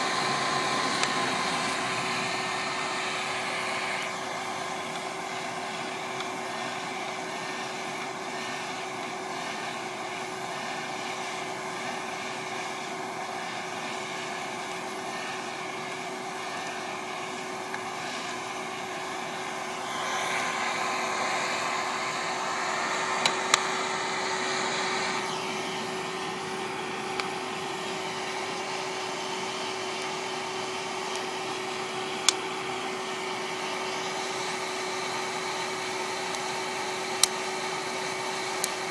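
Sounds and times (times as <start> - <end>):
popper fan motor hum: 0.0 - 32.9.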